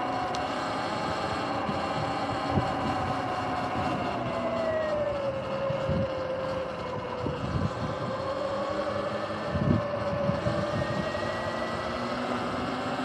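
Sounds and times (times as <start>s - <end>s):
electric motor whining: 0.0s - 13.0s
wind gusts on microphone: 0.0s - 13.0s.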